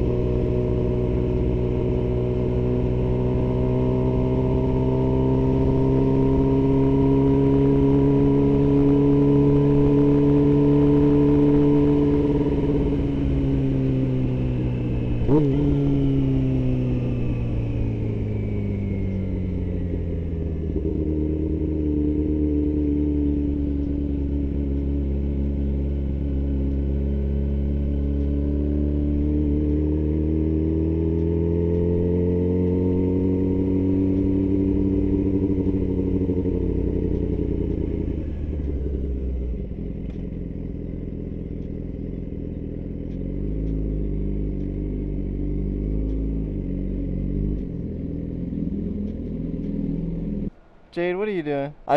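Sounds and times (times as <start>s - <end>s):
motorcycle engine running: 0.0s - 50.5s.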